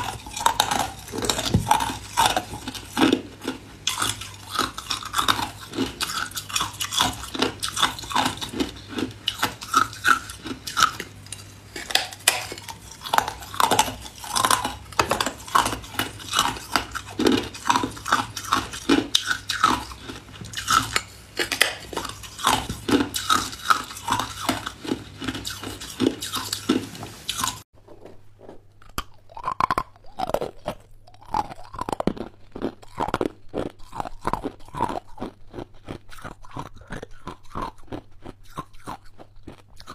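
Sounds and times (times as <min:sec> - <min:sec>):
ice crunching in mouth: 0:00.0 - 0:27.6, 0:28.4 - 0:39.9.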